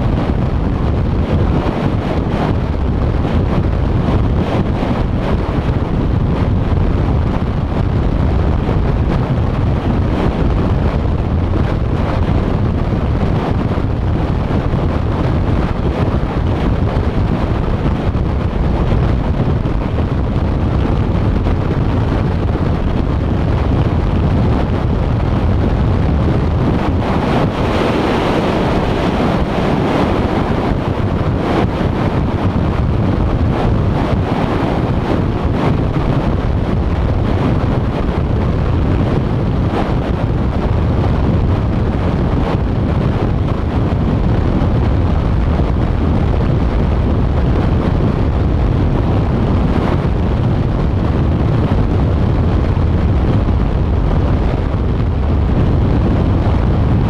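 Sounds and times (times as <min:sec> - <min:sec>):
road and tyre noise: 0:00.0 - 0:57.0
wind buffeting microphone: 0:00.0 - 0:57.0.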